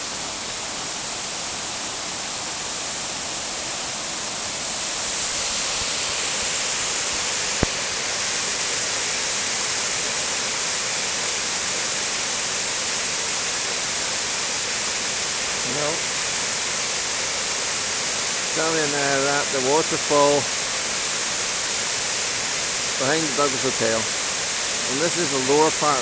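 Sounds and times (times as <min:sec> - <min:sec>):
waterfall rushing: 0:00.1 - 0:26.0.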